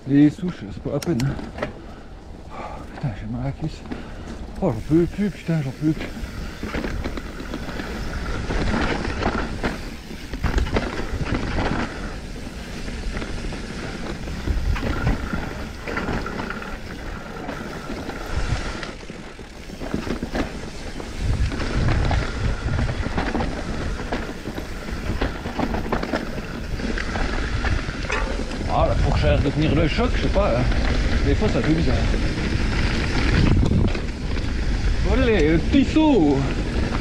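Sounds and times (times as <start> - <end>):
bike rattling over bumps: 0.0 - 37.0
bike tyres rolling on dirt: 0.0 - 37.0
wind buffeting microphone: 0.0 - 37.0.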